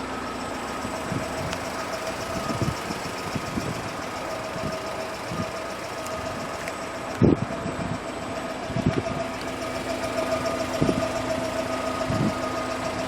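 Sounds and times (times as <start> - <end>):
petrol engine idling: 0.0 - 13.0.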